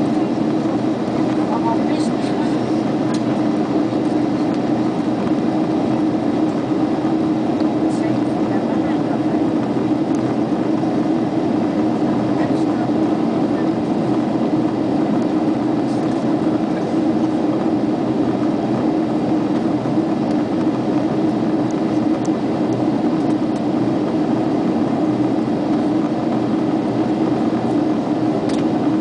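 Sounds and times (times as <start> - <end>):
jet engines droning: 0.0 - 29.0
low hum: 0.0 - 29.0.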